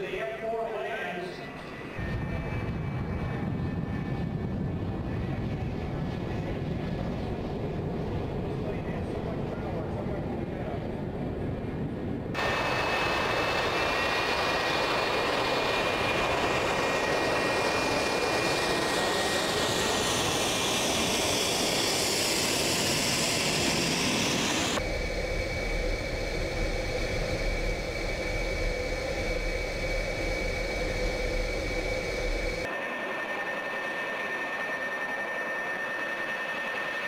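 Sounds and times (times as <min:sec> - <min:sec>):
jet engines whining loudly: 0:00.0 - 0:37.0
deep engine rumble in cockpit: 0:02.0 - 0:32.7.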